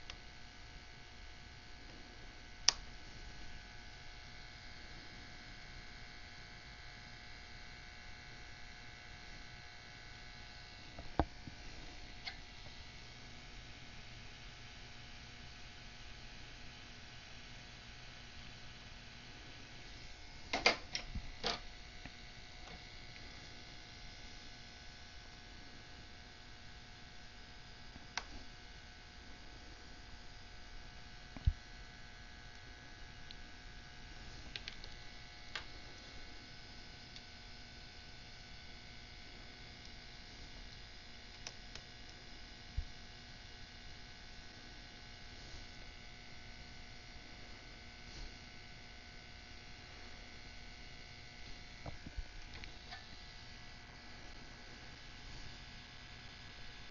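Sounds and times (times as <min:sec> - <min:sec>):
electrical hum: 0:00.0 - 0:56.9.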